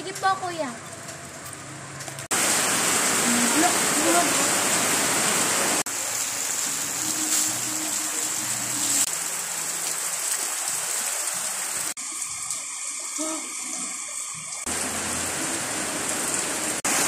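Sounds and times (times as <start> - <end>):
steady rain hiss: 2.3 - 17.0.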